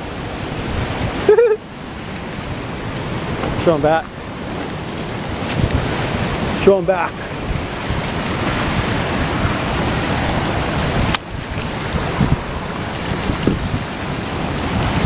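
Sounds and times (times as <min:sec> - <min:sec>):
surf washing against rocks: 0:00.0 - 0:15.0
wind on microphone: 0:00.0 - 0:15.0.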